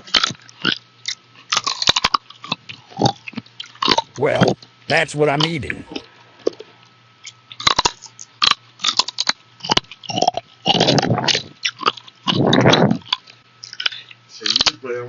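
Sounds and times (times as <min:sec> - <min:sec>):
crunchy food being chewed: 0:00.0 - 0:04.7, 0:05.4 - 0:14.8.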